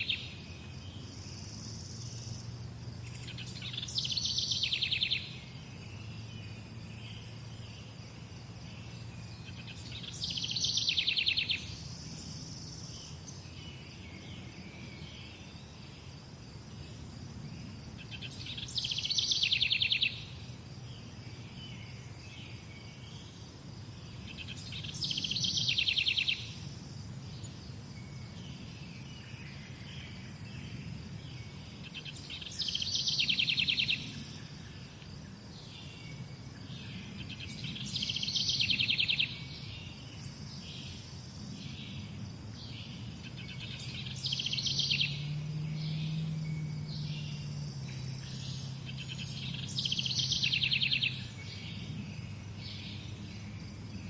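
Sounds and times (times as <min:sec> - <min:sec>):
soft bird chirps: 0:00.0 - 0:54.0.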